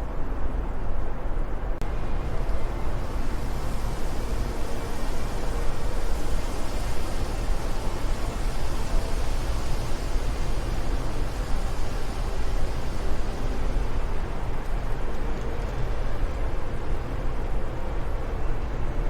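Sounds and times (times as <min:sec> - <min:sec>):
wind rumbling and hissing: 0:00.0 - 0:19.0.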